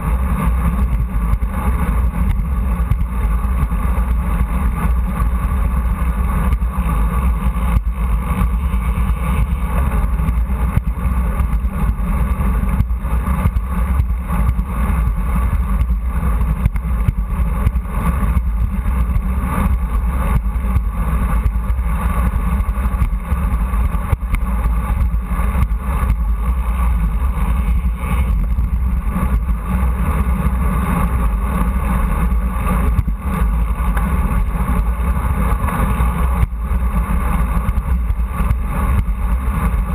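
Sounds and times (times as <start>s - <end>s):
bicycle road noise rumble: 0.0s - 39.9s.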